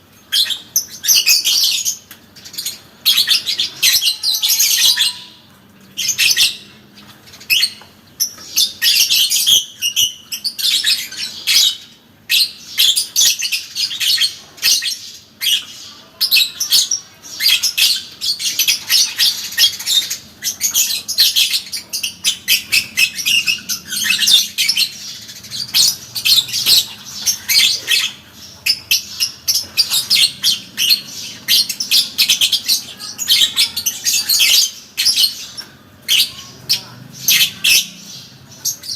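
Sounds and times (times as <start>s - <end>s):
lovebird chattering: 7.4s - 38.9s.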